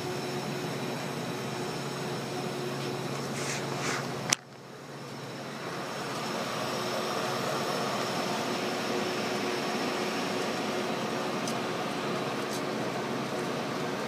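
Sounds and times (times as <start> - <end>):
thin steady whine: 0.0 - 14.0
ventilation hum and hiss: 0.0 - 14.0.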